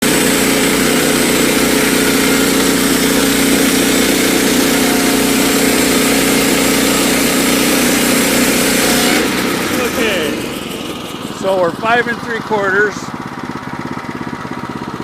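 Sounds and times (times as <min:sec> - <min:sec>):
sawmill engine running: 0:00.0 - 0:15.0.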